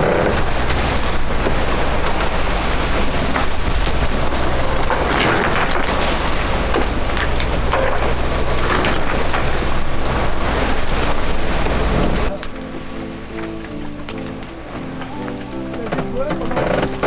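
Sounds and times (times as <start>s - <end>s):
crackles: 0.0s - 17.0s
wind buffeting microphone: 0.0s - 17.0s.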